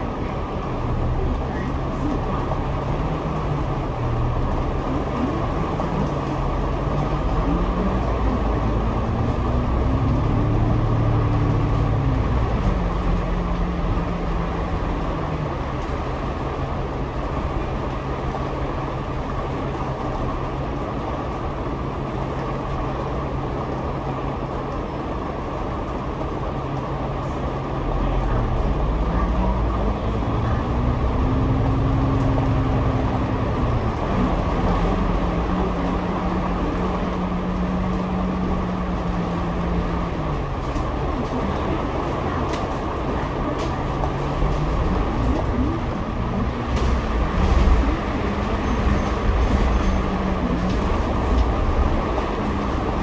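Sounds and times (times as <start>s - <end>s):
bus engine accelerating: 0.0s - 53.0s
road noise: 0.0s - 53.0s.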